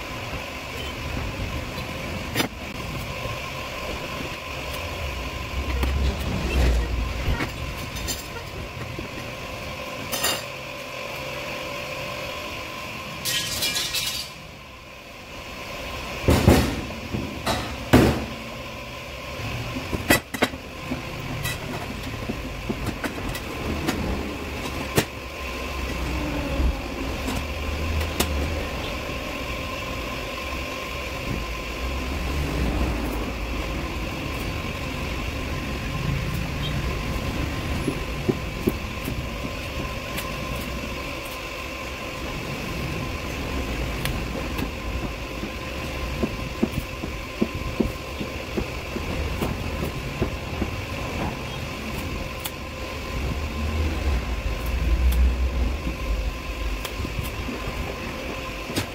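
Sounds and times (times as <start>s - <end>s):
workshop rumble: 0.0s - 58.9s.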